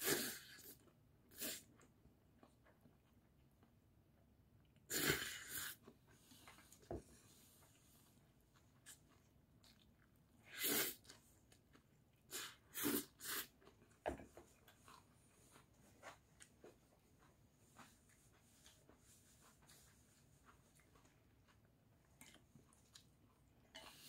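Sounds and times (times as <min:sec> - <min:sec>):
faint chewing: 0:00.4 - 0:24.0.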